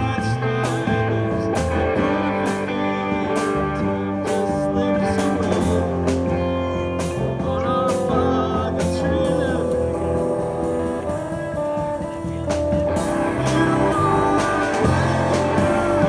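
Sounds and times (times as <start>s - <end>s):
rock music: 0.0s - 16.0s.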